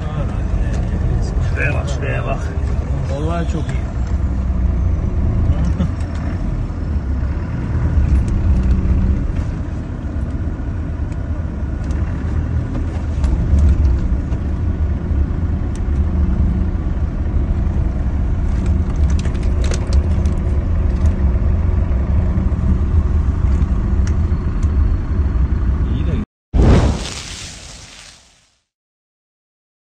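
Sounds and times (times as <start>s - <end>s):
vehicle engine and tyres: 0.0s - 26.2s.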